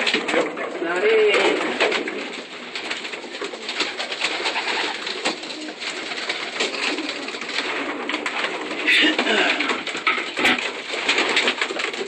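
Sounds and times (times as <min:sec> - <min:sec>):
pigeons cooing: 0:00.0 - 0:12.0
scratchy taps and rustles: 0:00.0 - 0:12.0.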